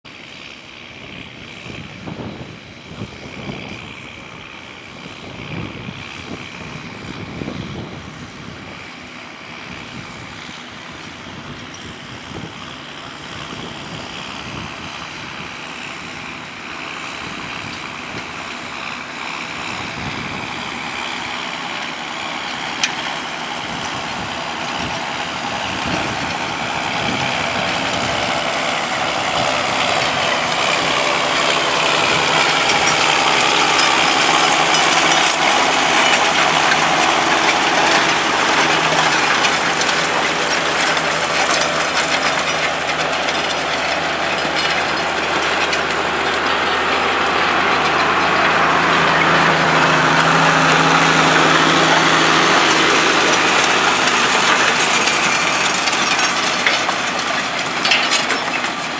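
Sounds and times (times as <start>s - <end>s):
tractor engine under load: 0.0s - 58.9s.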